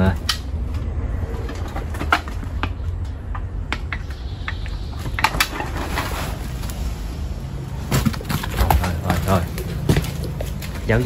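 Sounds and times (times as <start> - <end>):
low hum: 0.0 - 10.9.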